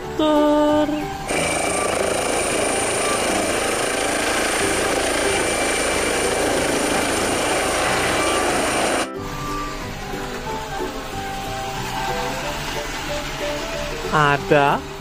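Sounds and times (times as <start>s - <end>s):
high turbine whine: 1.1s - 15.0s
helicopter rotor and engine noise: 1.2s - 15.0s.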